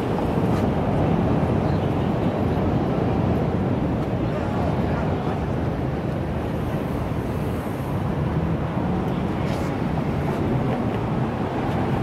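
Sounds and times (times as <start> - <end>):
city background rumble: 0.0 - 12.0.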